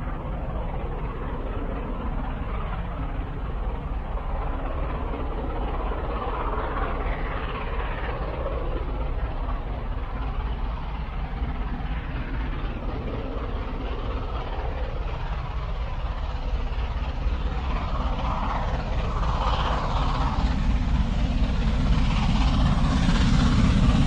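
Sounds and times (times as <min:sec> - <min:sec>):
steam locomotive rumble: 0:00.0 - 0:24.0.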